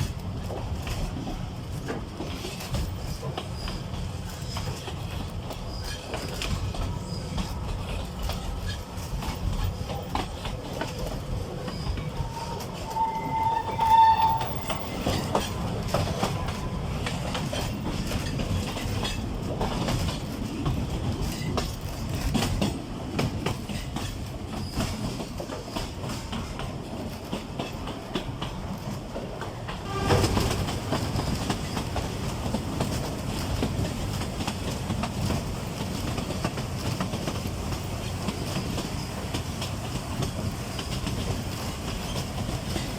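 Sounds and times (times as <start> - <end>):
wheels clicking over rail joints: 0.0 - 42.9
diesel locomotive rumbling: 0.1 - 42.9.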